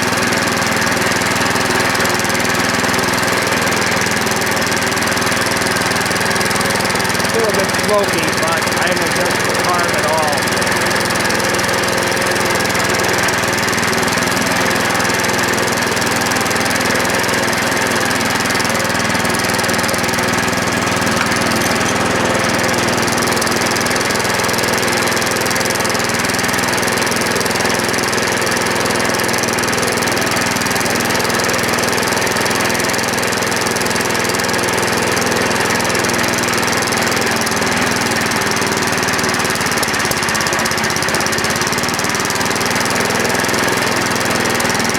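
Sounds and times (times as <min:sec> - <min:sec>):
small engine running steadily: 0:00.0 - 0:44.9.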